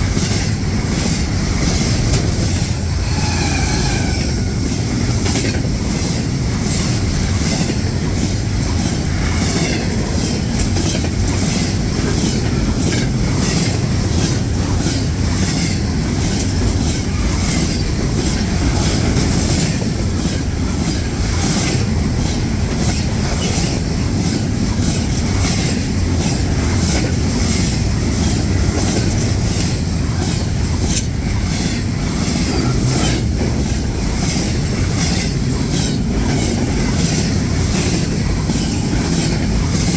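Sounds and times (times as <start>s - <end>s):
freight train cars rumbling past: 0.0s - 39.9s
wheels clacking over rail joints: 0.0s - 39.9s.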